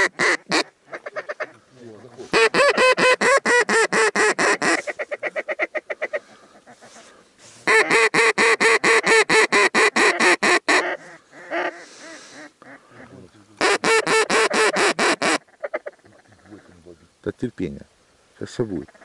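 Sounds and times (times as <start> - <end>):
duck call quacks: 0.0 - 16.7.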